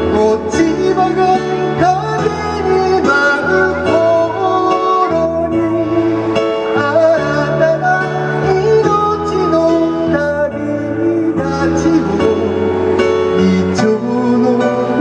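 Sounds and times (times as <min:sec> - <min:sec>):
electronic keyboard chords: 0:00.0 - 0:15.0.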